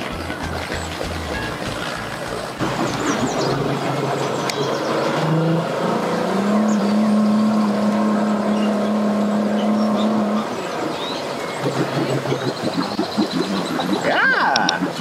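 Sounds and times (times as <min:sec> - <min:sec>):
outboard motor revving: 0:00.0 - 0:15.0
propeller churning water: 0:00.0 - 0:15.0.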